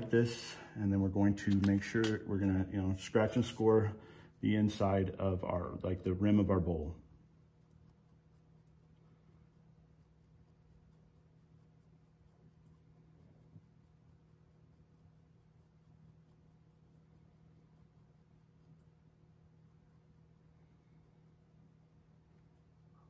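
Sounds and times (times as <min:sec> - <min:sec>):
tool scratching clay: 0:00.0 - 0:21.5.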